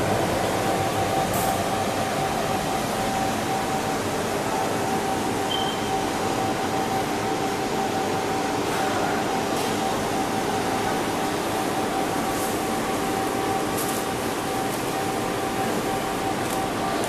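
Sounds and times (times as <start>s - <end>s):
machinery hum and air rush: 0.0s - 17.0s
mid-pitched whine: 0.0s - 17.0s.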